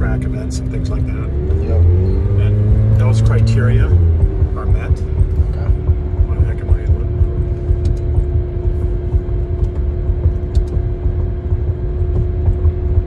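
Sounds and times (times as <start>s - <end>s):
car cabin road and engine rumble: 0.0s - 13.0s
constant drone: 0.0s - 13.0s.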